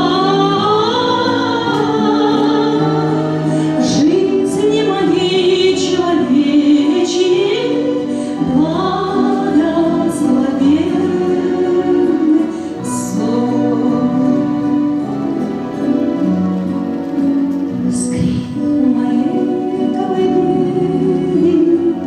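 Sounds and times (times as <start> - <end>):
instrumental accompaniment: 0.0 - 22.0
woman singing: 0.0 - 22.0.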